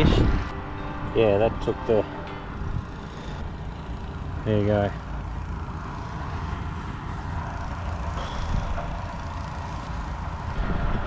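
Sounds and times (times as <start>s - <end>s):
wind buffeting microphone: 0.0s - 4.4s, 5.8s - 11.0s.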